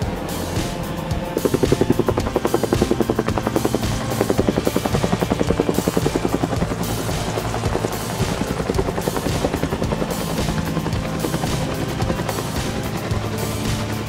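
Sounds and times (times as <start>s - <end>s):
helicopter engine tone: 0.0s - 14.0s
helicopter rotor beat: 0.0s - 14.0s.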